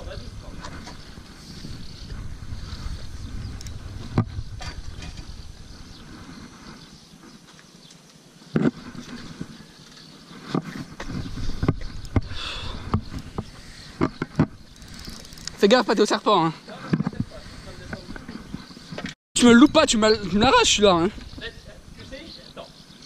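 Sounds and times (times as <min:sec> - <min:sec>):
wind rumbling on microphone: 0:00.0 - 0:07.4, 0:10.3 - 0:16.0, 0:16.8 - 0:22.5.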